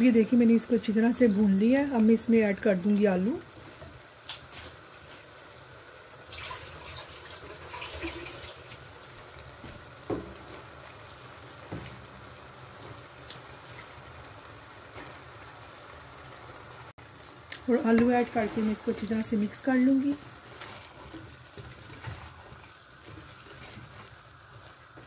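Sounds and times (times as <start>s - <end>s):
meat sizzling in oil: 0.0s - 25.0s.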